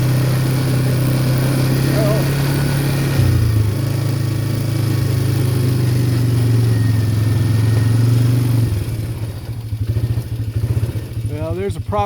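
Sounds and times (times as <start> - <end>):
atv engine under throttle: 0.0 - 12.0.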